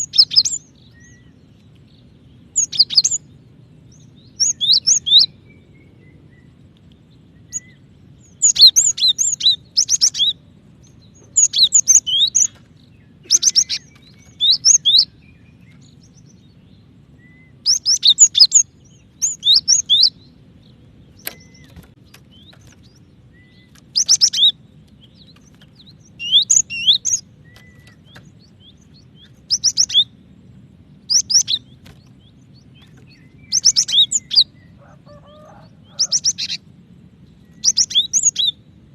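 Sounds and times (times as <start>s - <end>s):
bird chirping high: 0.0s - 1.4s, 2.1s - 6.6s, 7.4s - 30.3s, 31.0s - 36.7s, 37.4s - 38.7s
faint low hum: 0.0s - 38.9s.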